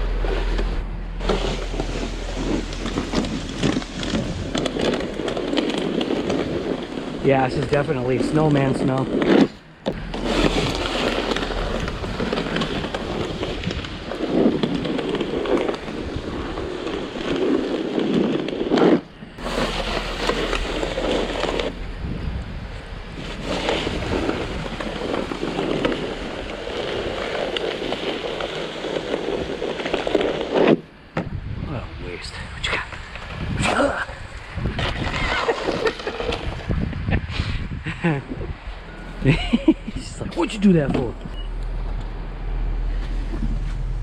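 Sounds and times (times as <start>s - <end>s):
wet snow crunching and scraping: 0.0s - 31.1s, 32.7s - 44.0s.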